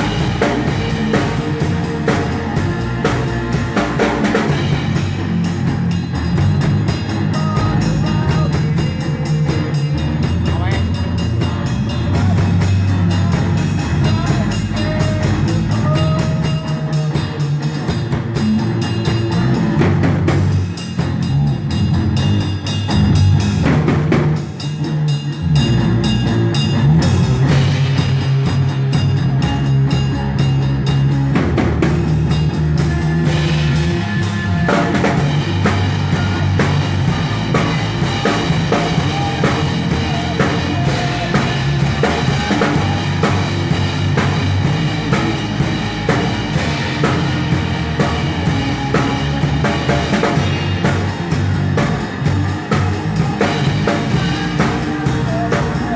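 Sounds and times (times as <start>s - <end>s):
bass drum and snare: 0.0s - 55.9s
live rock band playing: 0.0s - 55.9s.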